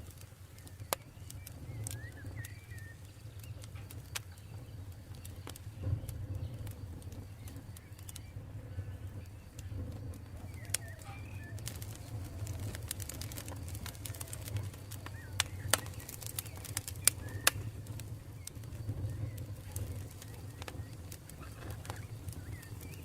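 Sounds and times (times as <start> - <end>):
campfire crackling and popping: 0.0 - 23.0
low rumble of flames: 0.0 - 23.0.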